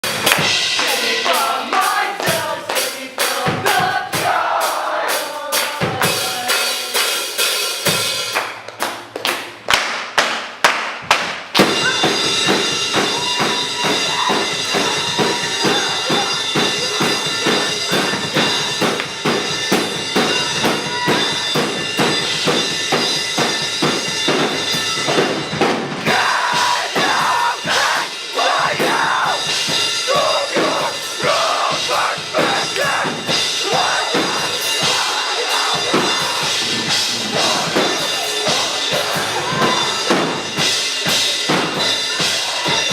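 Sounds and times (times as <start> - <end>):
live metal band playing: 0.0 - 8.4, 11.6 - 42.9
drum kit: 0.0 - 42.9.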